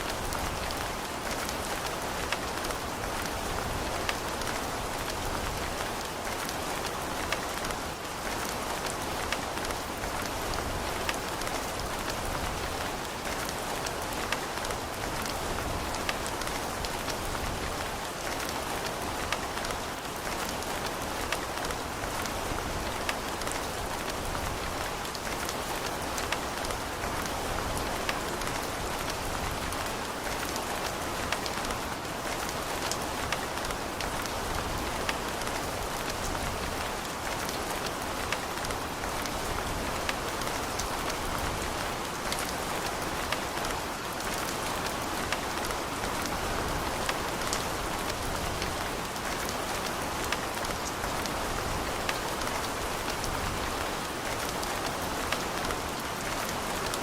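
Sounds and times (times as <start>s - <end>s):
rain hiss on hard surfaces: 0.0s - 57.0s.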